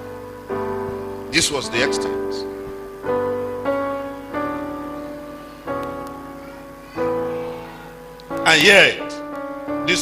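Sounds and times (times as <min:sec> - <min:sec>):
soft keyboard chords: 0:00.0 - 0:10.0.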